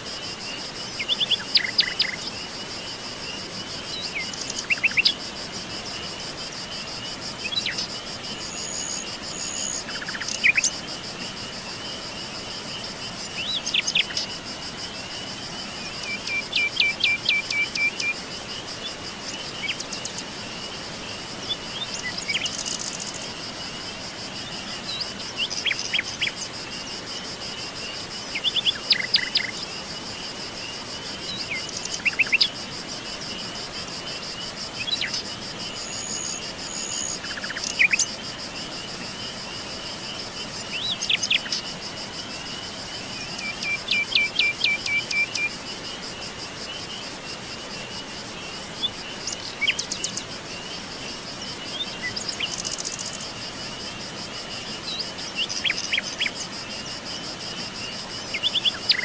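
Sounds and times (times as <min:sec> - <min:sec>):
high-pitched insect trill: 0:00.0 - 0:59.0.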